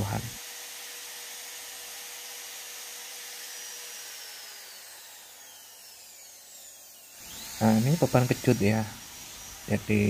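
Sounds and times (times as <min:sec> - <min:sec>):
electric drill winding down: 0:00.0 - 0:10.0
hot-air gun blower hiss: 0:00.0 - 0:10.0.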